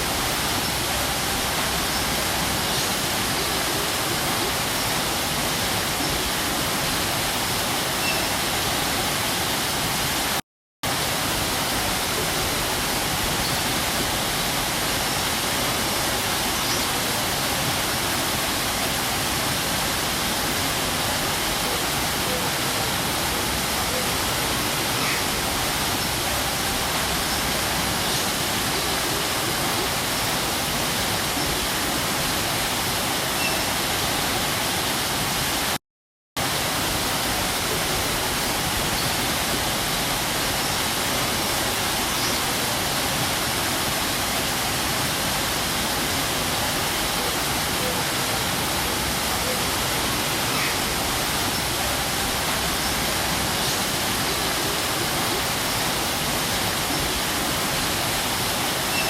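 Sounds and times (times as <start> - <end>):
waterfall rushing: 0.0 - 35.8, 36.4 - 59.0.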